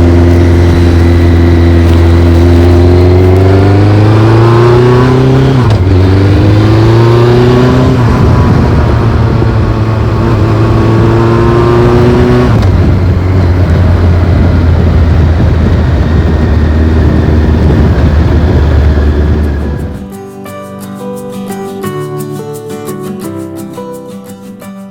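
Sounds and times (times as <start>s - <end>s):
motorcycle accelerating: 0.0s - 20.1s.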